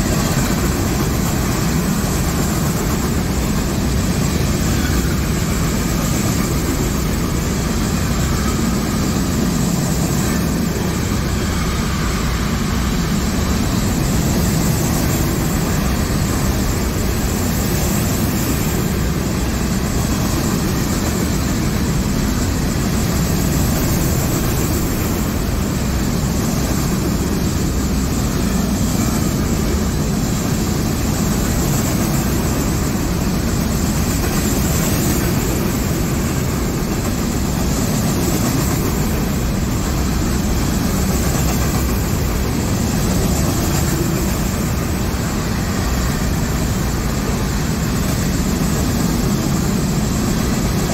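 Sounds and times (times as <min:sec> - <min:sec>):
freight train rolling past: 0:00.0 - 0:50.9.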